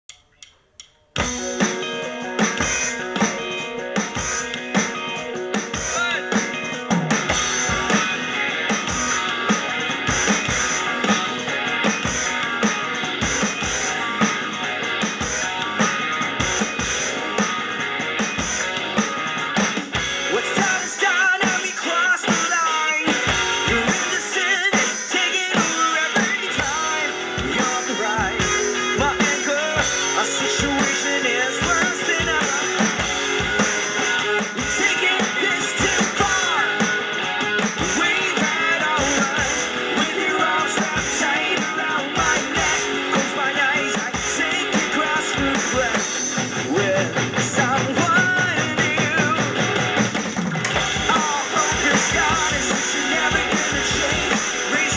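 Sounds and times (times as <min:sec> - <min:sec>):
electronic percussion pad drumming: 0:01.2 - 0:54.9
rock song with electric guitars: 0:01.2 - 0:54.9.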